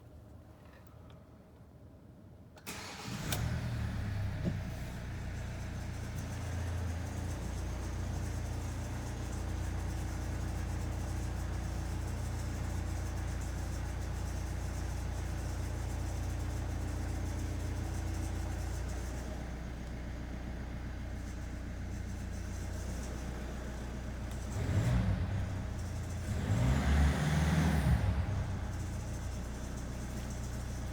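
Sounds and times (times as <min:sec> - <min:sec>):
diesel engine starting and idling: 0:02.6 - 0:30.9.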